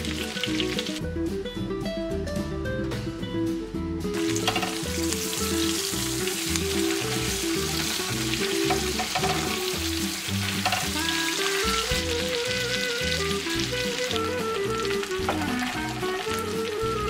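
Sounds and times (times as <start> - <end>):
chicken sizzling in oil: 0.0 - 1.0, 4.2 - 17.0
instrumental jazz music: 0.0 - 17.0.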